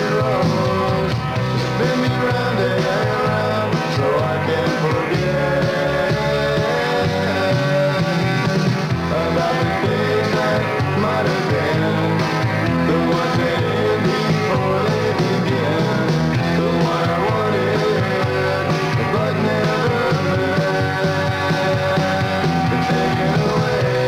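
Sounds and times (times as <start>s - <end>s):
person singing: 0.0s - 24.0s
rock band playing: 0.0s - 24.0s.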